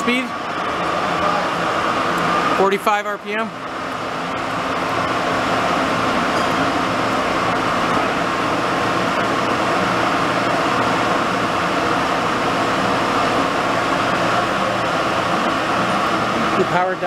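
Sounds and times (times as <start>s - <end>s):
lathe motor humming: 0.0s - 17.0s.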